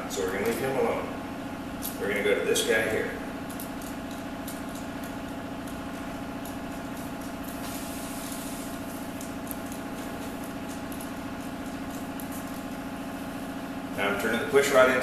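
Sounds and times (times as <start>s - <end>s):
mechanical hum pulsing: 0.0s - 15.0s.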